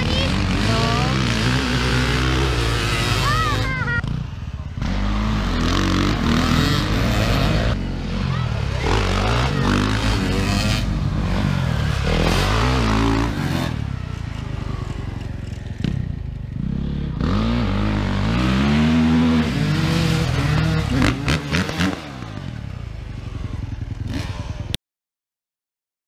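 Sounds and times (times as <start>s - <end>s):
dirt bike engines revving: 0.0s - 24.8s.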